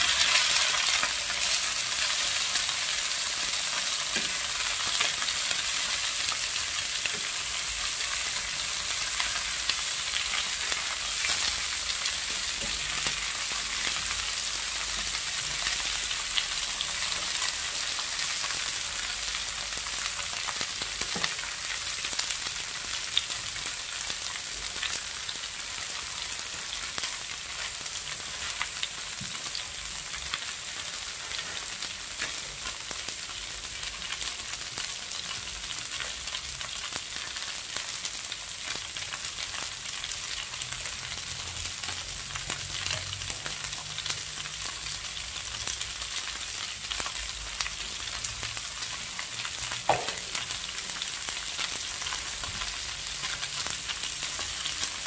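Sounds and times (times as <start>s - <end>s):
vegetables sizzling in hot oil: 0.0s - 55.0s.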